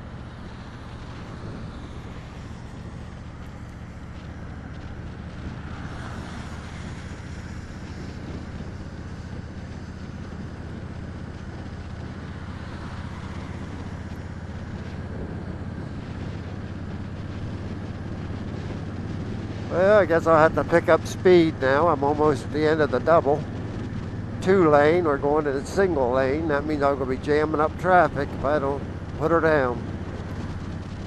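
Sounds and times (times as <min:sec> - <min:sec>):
wind on microphone: 0:00.0 - 0:03.4, 0:04.2 - 0:31.0
motorcycle engine running: 0:00.0 - 0:31.0.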